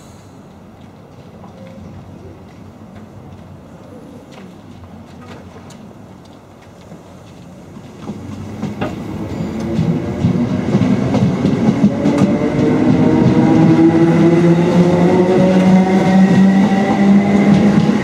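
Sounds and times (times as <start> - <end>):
wheels clattering on rails: 0.5 - 18.0.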